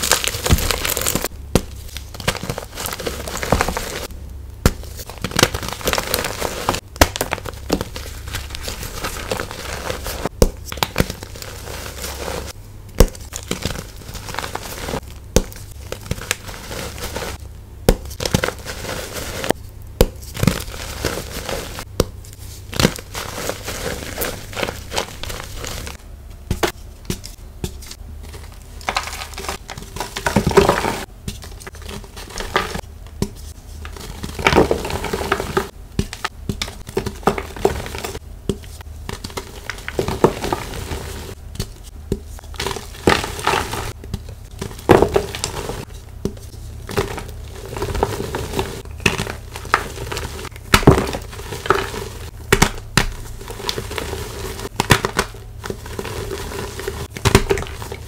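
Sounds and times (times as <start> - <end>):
chalk crunching and crumbling: 0.0 - 58.0.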